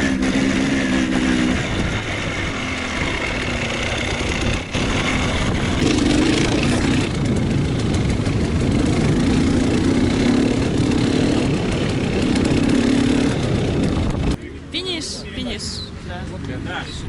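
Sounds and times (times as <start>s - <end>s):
constant rushing noise: 0.0s - 17.0s
vehicle engine running: 0.0s - 17.0s.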